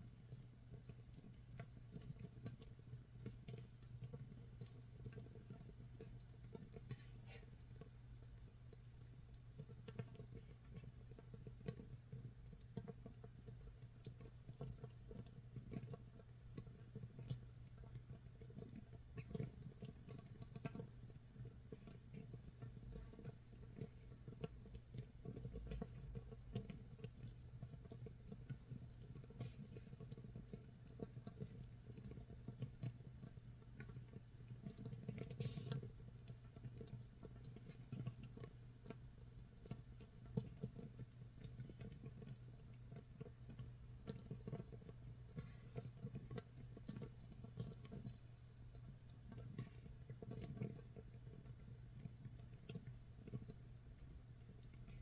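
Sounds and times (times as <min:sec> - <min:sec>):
faint low hum: 0:00.0 - 0:55.0
fermenting mash fizzing and popping: 0:00.0 - 0:55.0.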